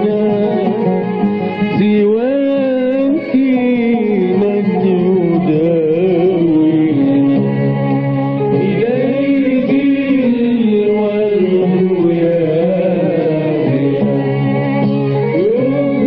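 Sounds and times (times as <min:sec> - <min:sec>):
hymn with sliding melody: 0:00.0 - 0:16.0.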